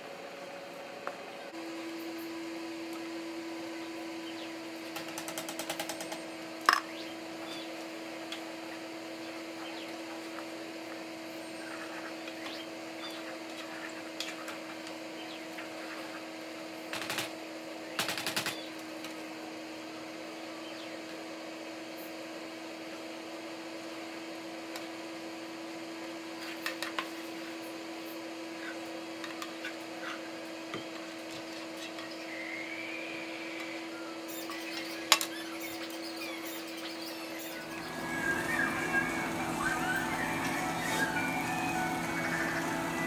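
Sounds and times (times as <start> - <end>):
electrical hum: 0.0 - 43.0.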